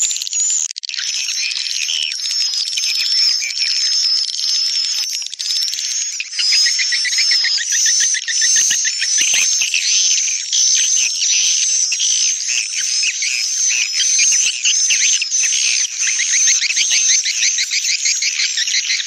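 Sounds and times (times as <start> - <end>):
recorded swiftlet twittering: 0.0 - 19.0.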